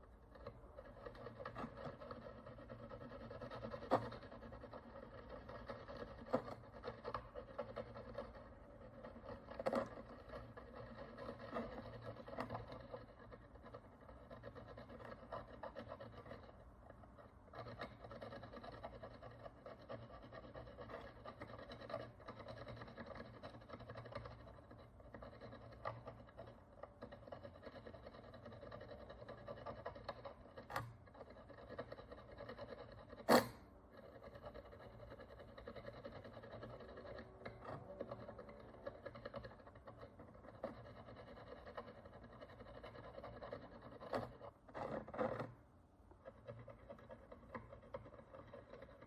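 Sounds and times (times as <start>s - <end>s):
hand tool scratching metal coin: 0.4s - 45.6s.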